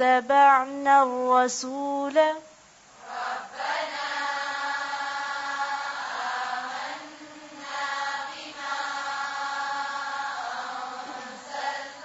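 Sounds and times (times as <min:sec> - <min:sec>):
chanted recitation: 0:00.0 - 0:12.0.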